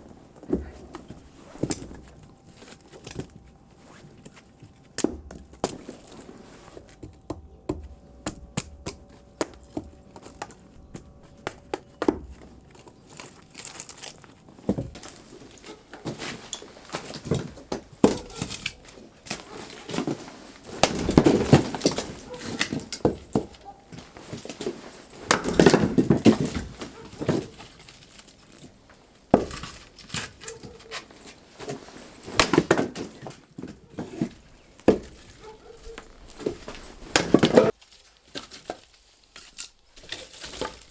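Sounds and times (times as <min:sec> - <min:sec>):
wood knocking and cracking: 0:04.2 - 0:40.9.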